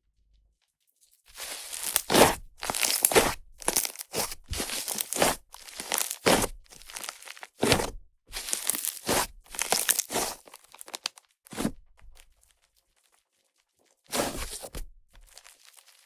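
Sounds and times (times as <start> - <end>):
slime squelching by hand: 1.3 - 16.0.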